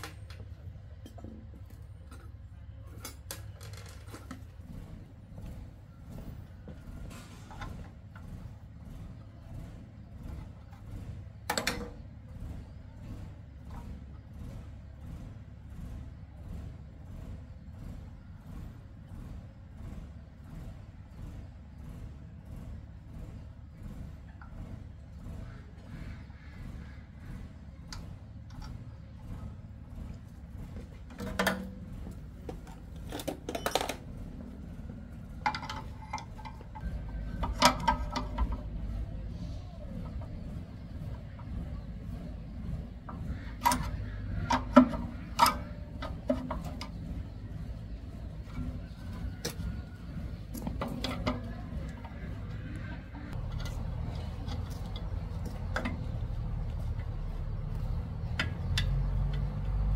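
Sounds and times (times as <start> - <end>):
low steady rumble: 0.0 - 59.9.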